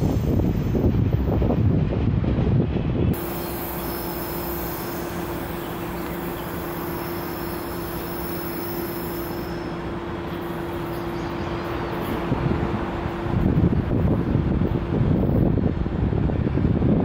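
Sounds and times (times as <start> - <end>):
constant low hum: 0.0 - 17.0
electric train rumbling: 0.0 - 17.0.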